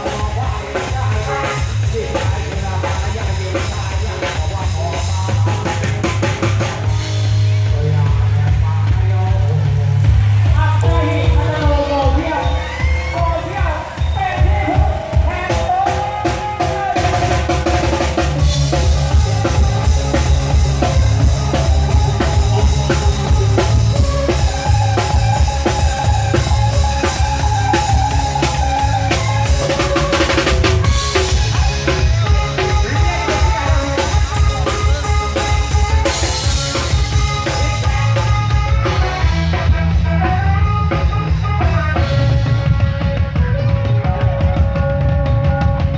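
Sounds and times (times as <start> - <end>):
drum kit fast beat: 0.0 - 45.9
procession band playing: 0.0 - 45.9
sustained melody line: 6.6 - 45.9.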